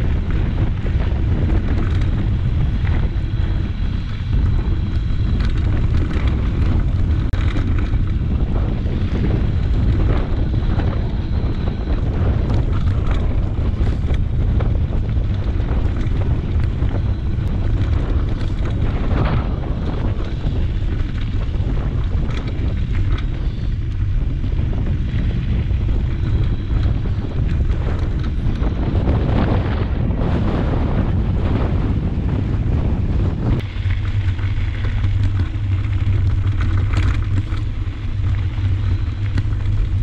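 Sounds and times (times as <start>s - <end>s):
bike tyres clicking on stones: 0.0s - 40.0s
wind buffeting microphone: 0.0s - 40.0s.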